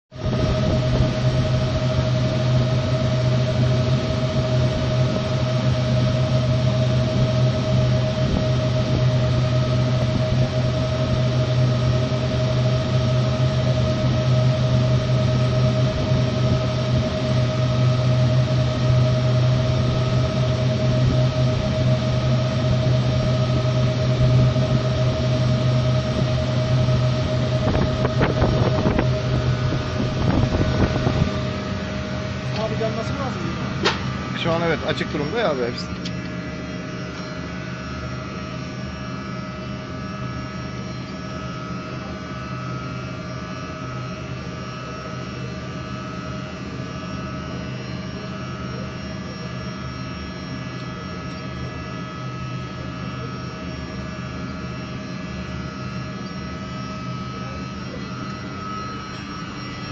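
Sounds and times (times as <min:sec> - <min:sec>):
machinery drone with whine: 0:00.1 - 0:59.9.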